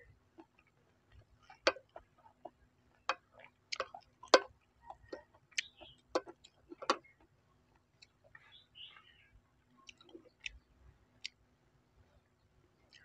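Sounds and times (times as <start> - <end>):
close-up chewing: 0.0 - 13.0.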